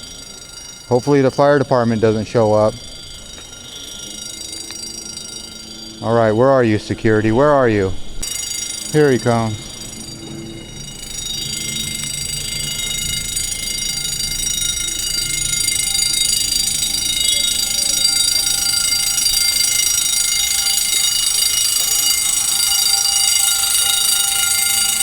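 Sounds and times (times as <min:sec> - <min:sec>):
fire alarms shrill tone: 0:00.0 - 0:25.0.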